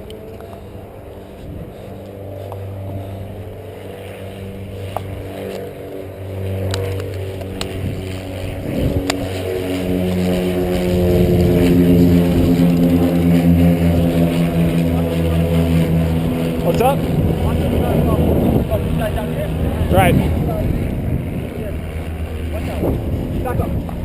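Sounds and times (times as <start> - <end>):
motor engine running: 0.0 - 24.0.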